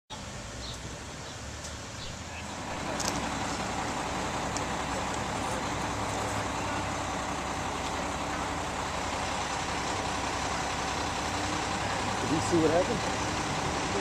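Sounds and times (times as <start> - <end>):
street traffic: 0.1 - 14.0
vehicle engine idling: 0.1 - 14.0.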